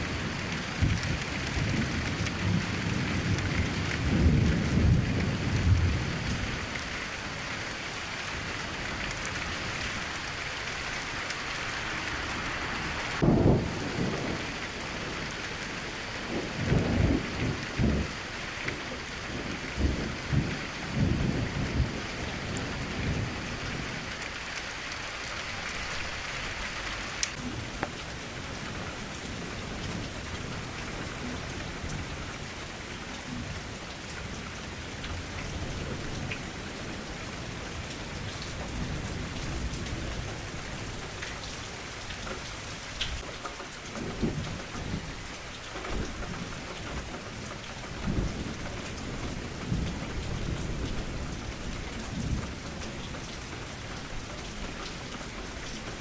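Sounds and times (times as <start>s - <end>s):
low rumbles of thunder: 0.0s - 10.4s, 13.2s - 24.3s, 27.3s - 43.2s, 43.8s - 56.0s
steady rain falling: 0.0s - 56.0s.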